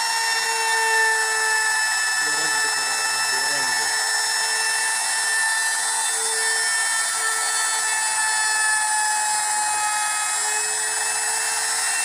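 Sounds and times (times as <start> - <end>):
power tool whining on wood: 0.0 - 12.0.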